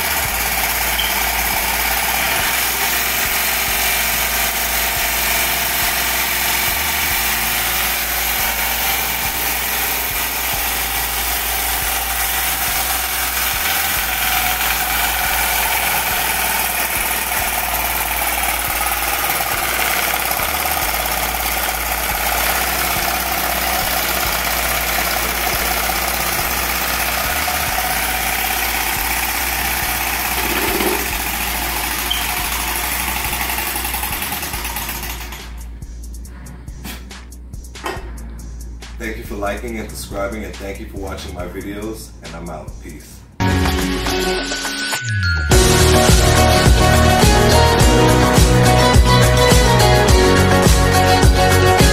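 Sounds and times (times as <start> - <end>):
stirling engine whirring: 0.0 - 42.4.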